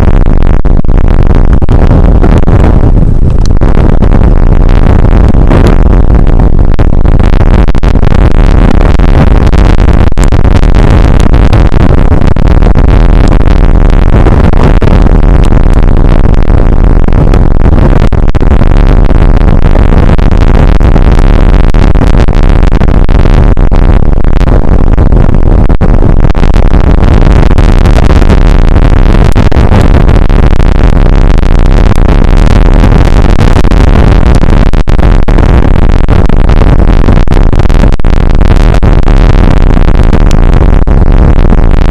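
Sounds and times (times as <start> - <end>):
rain noise distorting microphone: 0.0 - 41.9.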